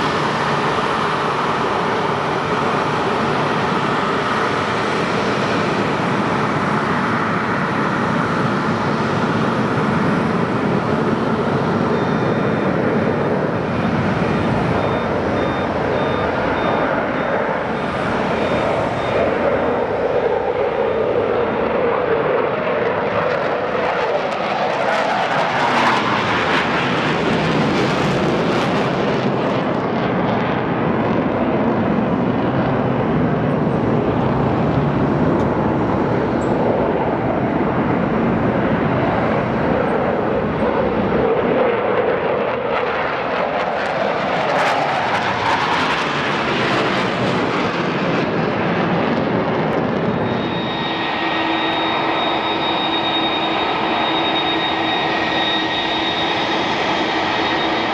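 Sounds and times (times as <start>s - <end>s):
jet engines running: 0.0s - 57.9s.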